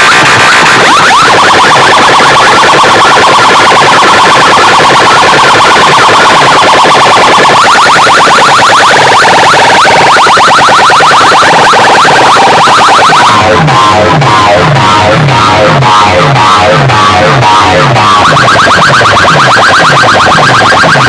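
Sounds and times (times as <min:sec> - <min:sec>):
bass line: 0:00.0 - 0:21.0
loud electronic track: 0:00.0 - 0:21.0.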